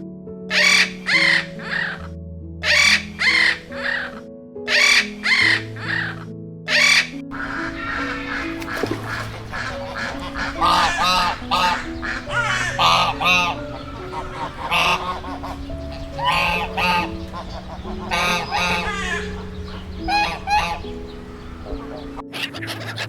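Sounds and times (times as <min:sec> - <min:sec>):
background music with held notes: 0:00.0 - 0:23.0
waterfowl calling: 0:00.5 - 0:23.0.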